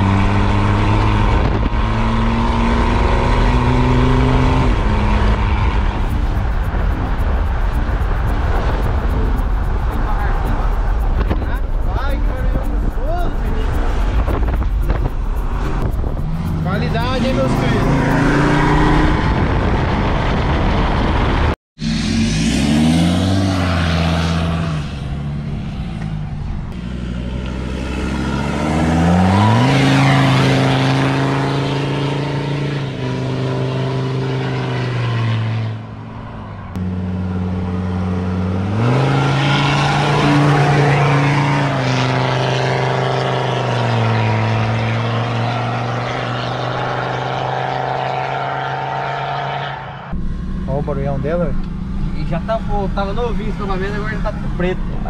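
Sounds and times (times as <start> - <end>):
truck engine accelerating: 0.0 - 55.0.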